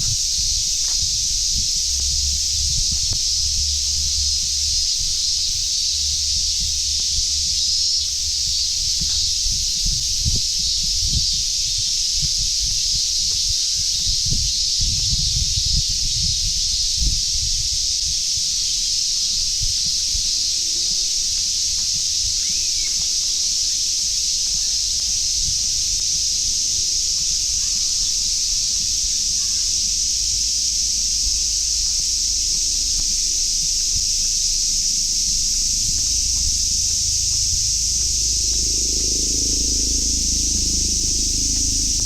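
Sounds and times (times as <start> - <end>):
low rumble with faint thumps: 0.0 - 17.8, 24.0 - 42.0
cicadas droning: 0.0 - 42.0.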